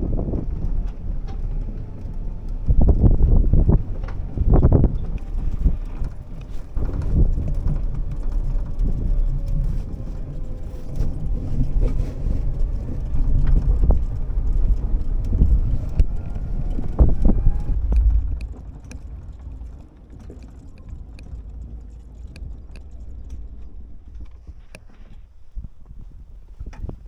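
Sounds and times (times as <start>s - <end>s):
golf cart motor whining: 0.0s - 25.3s.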